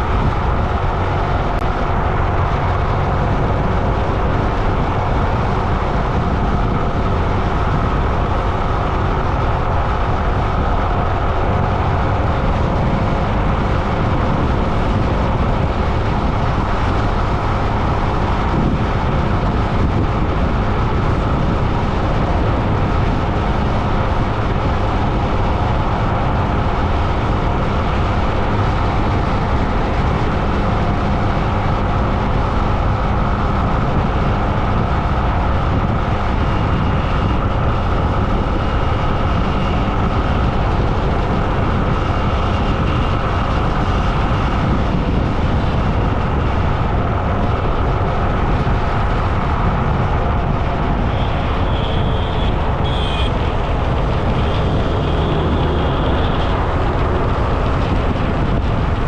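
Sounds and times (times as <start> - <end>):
road traffic noise: 0.0 - 59.0
rushing air: 0.0 - 59.0.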